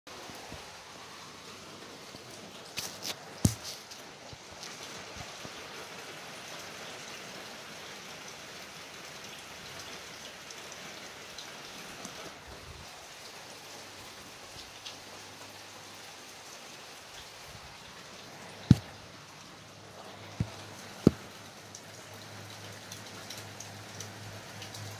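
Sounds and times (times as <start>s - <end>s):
steady rain falling: 0.1s - 24.9s.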